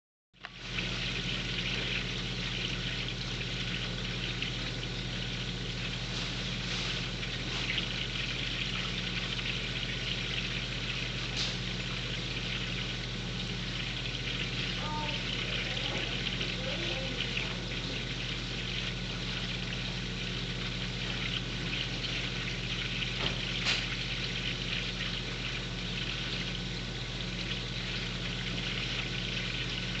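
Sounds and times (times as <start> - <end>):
low pump hum: 0.4 - 30.0
water trickling and splashing: 0.4 - 30.0.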